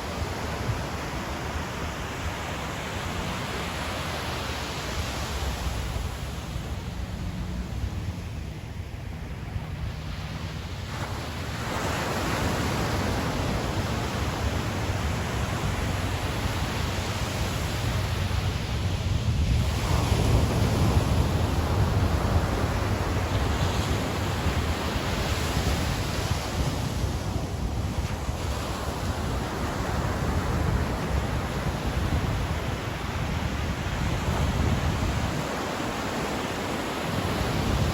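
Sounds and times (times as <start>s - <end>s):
ocean waves breaking on beach: 0.0s - 37.9s
wind rumble on microphone: 0.0s - 37.9s.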